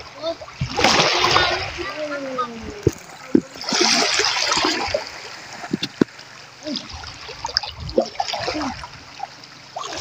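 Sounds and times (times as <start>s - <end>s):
seawater splashing and trickling: 0.0s - 10.0s.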